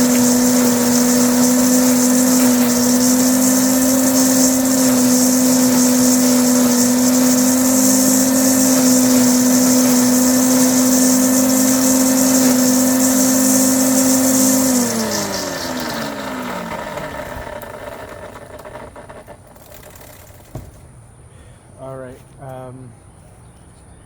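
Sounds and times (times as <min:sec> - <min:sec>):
leaf mulcher motor running: 0:00.0 - 0:20.9.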